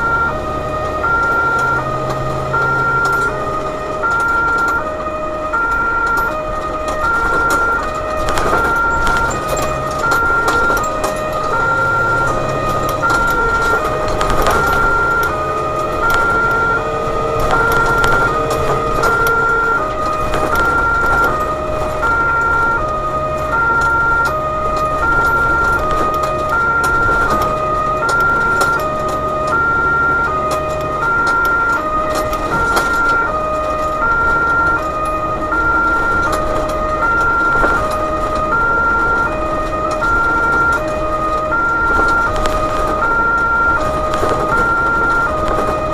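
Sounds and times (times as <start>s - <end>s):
truck engine and tyre noise: 0.0s - 45.9s
two-tone emergency siren: 0.0s - 45.9s.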